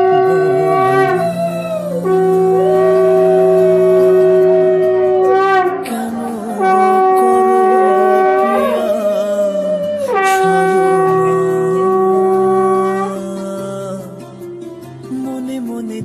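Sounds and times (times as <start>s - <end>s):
conch shell blasts: 0.0s - 13.3s.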